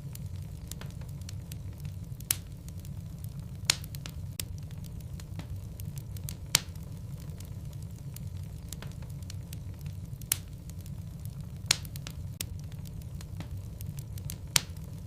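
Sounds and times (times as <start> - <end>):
fire crackles and pops: 0.0 - 15.0
wood logs burning in fireplace: 0.0 - 15.0.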